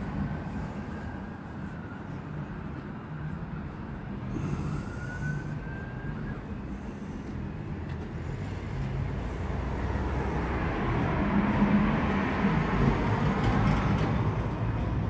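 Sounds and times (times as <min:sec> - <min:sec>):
vehicle passing with low rumble: 0:00.0 - 0:15.0.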